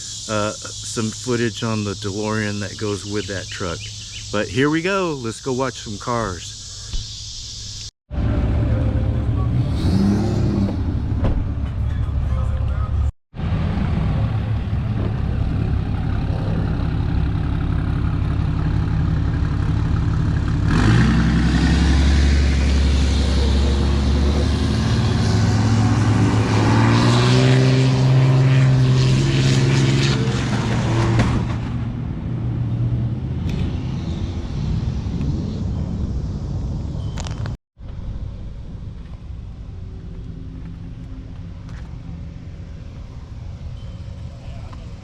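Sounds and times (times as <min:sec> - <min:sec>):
car engine with deep exhaust: 0:06.6 - 0:45.0.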